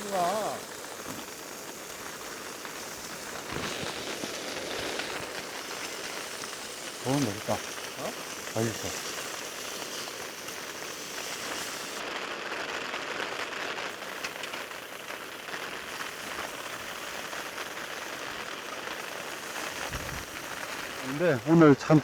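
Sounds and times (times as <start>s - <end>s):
heavy rain on tent fabric: 0.0s - 22.0s.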